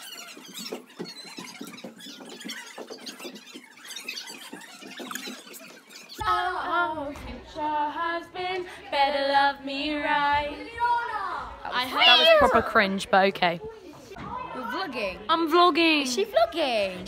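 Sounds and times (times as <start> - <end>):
background hubbub: 0.0 - 17.0.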